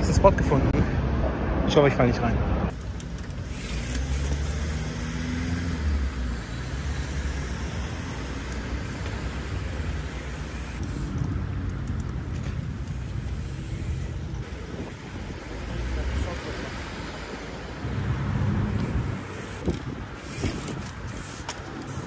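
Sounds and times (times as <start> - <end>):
rumble of passing cars: 0.0 - 22.0.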